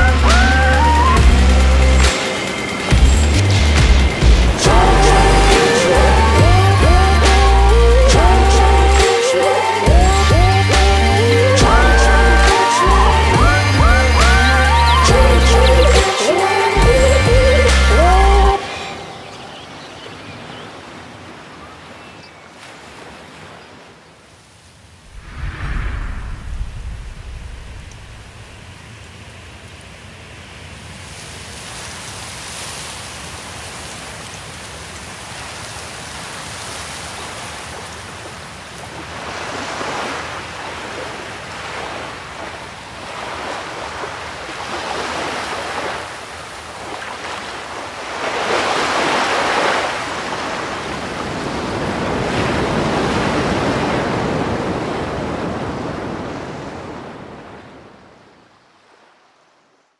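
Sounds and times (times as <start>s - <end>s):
waves breaking on shore: 0.0s - 17.0s, 18.0s - 59.9s.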